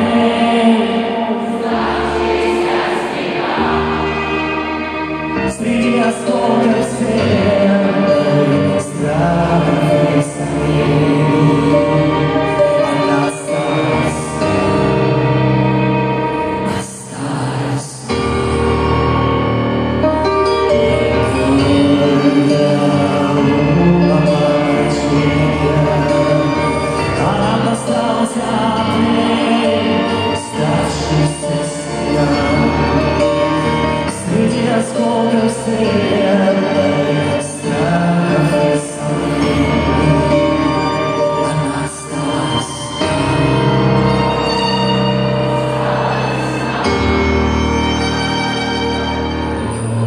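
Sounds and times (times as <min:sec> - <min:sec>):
live rock band with strings: 0:00.0 - 0:50.0.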